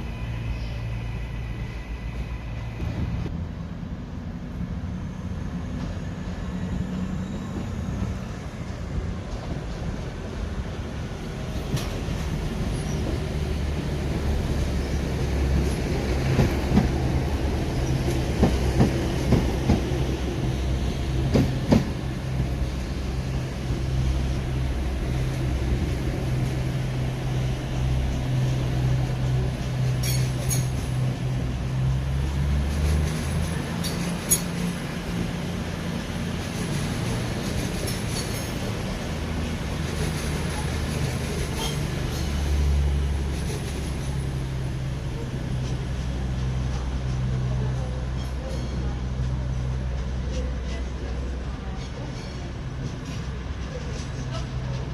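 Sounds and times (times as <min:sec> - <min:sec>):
train running hum: 0:00.0 - 0:54.9.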